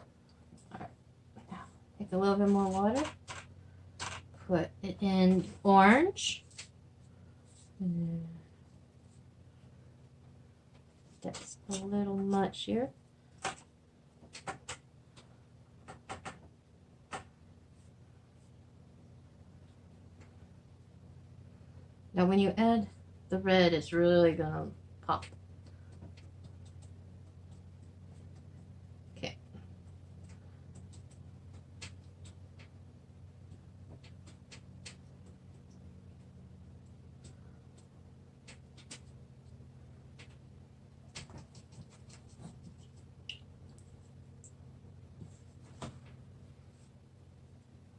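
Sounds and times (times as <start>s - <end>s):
faint low hum: 0.0s - 47.9s.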